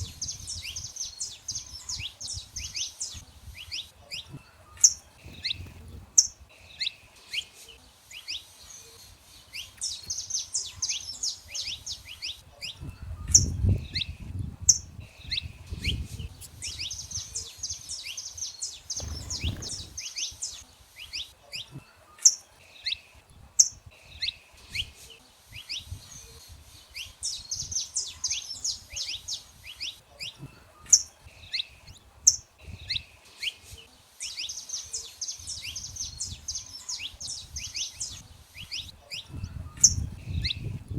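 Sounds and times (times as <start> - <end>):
finches singing: 0.0 - 40.9.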